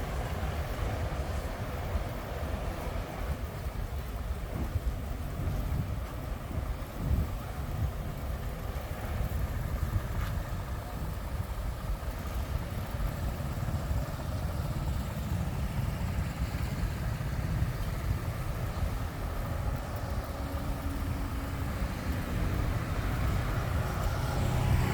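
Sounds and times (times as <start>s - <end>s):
road traffic rumbling past: 0.0s - 24.9s.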